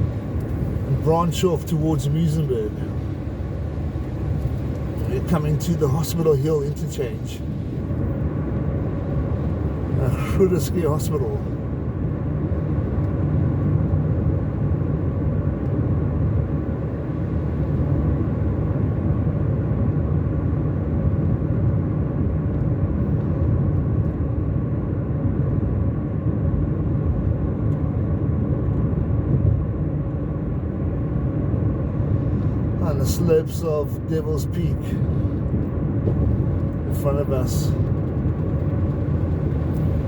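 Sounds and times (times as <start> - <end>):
car cruising road noise: 0.0 - 40.0.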